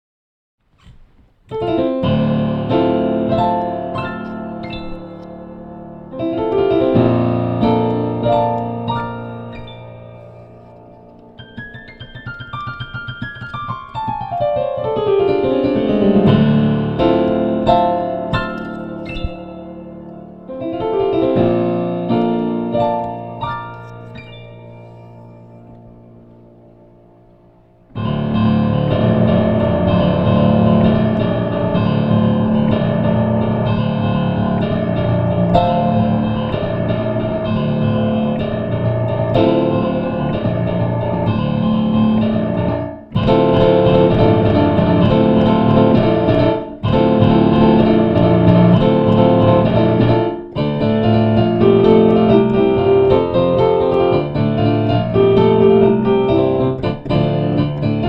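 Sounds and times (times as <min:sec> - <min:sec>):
fast piano piece: 0:01.5 - 0:58.0.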